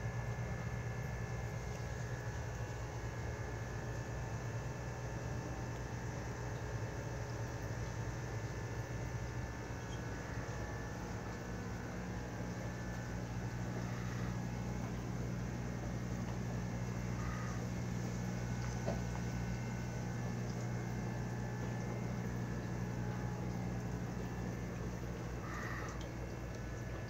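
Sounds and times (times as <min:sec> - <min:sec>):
pump humming: 0:00.0 - 0:27.0.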